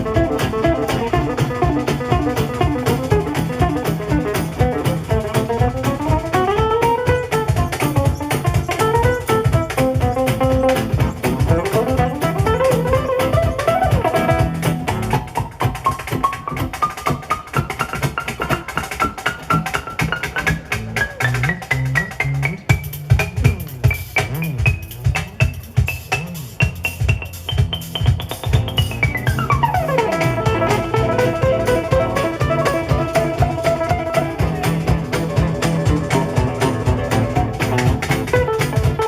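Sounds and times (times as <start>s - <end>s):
double bass: 0.0s - 39.0s
lead melody with sliding notes: 0.0s - 39.0s
strummed guitar: 0.0s - 39.0s.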